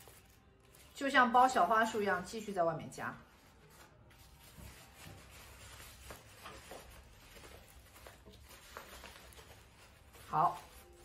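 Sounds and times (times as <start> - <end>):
wrapping paper crinkling: 0.0 - 2.5, 3.2 - 11.0.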